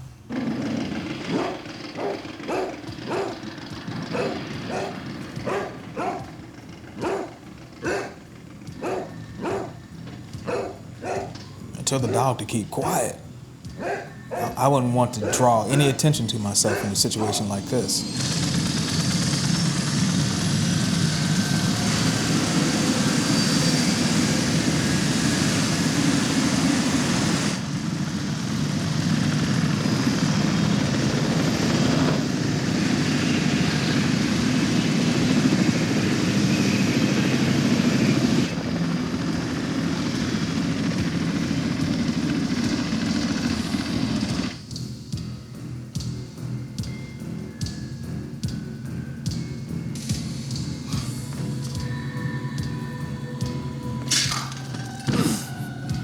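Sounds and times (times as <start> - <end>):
aircraft engines droning: 0.0 - 56.0.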